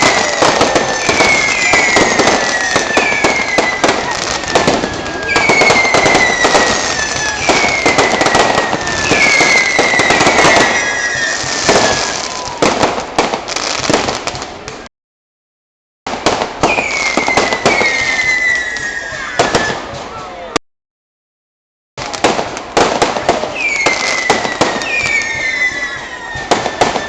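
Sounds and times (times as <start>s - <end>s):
firework bangs and crackles: 0.0s - 14.9s, 16.1s - 20.6s, 22.0s - 27.0s
whistling fireworks: 0.0s - 14.9s, 16.1s - 20.6s, 22.0s - 27.0s.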